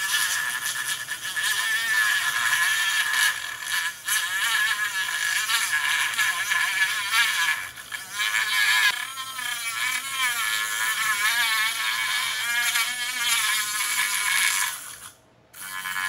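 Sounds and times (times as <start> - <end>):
rotary tool cutting plastic: 0.0 - 16.0.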